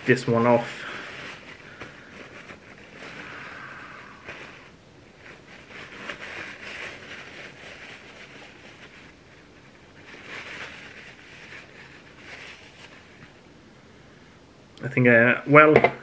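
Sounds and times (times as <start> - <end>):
paper towel rustling: 0.0 - 13.5.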